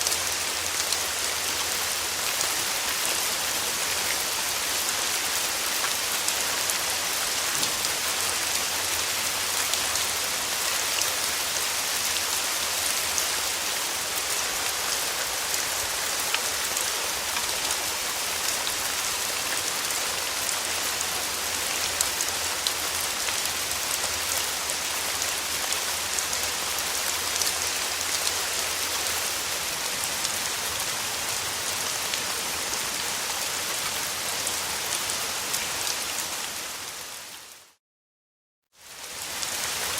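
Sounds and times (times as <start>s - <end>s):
steady rain falling: 0.0s - 37.8s, 38.8s - 39.9s.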